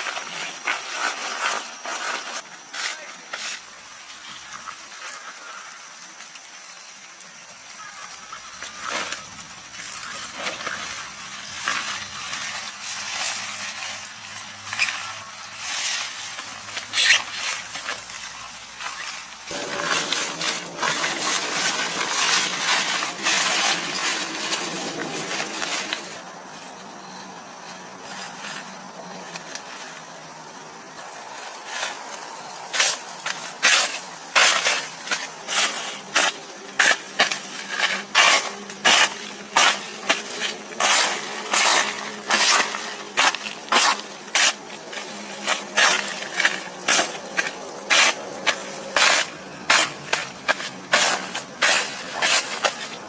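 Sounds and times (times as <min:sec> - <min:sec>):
steady noise: 0:08.2 - 0:53.0.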